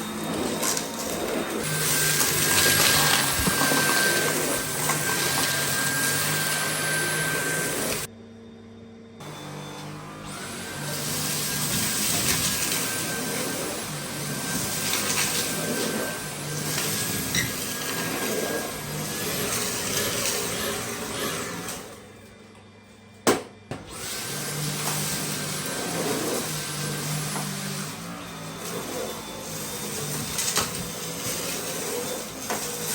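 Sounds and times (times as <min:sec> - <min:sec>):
vacuum cleaner motor whine: 0:00.0 - 0:32.9.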